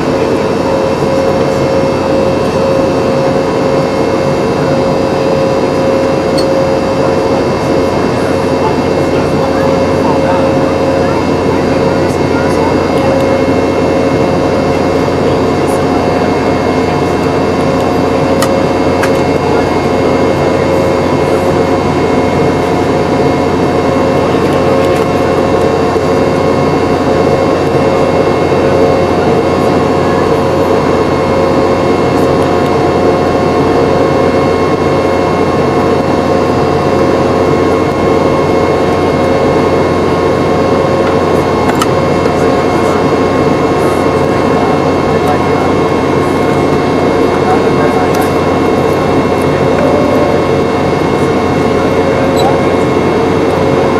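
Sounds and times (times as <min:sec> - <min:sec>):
airplane cabin engine noise: 0:00.0 - 0:53.9
steady whining tones: 0:00.0 - 0:53.9.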